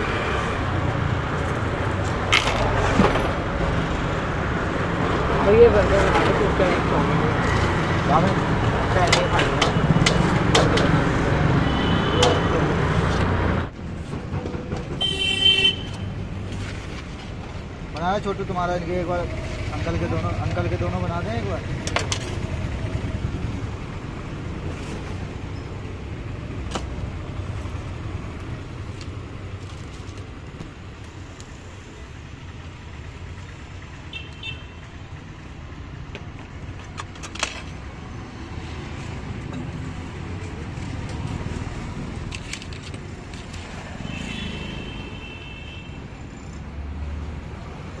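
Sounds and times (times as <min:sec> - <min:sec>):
street traffic rumble: 0:00.0 - 0:48.0.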